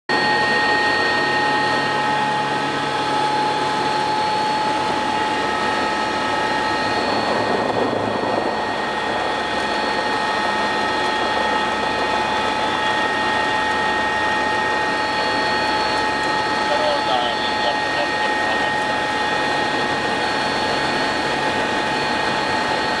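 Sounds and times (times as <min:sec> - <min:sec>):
helicopter engine whine: 0:00.1 - 0:23.0
rotor rushing drone: 0:00.1 - 0:23.0.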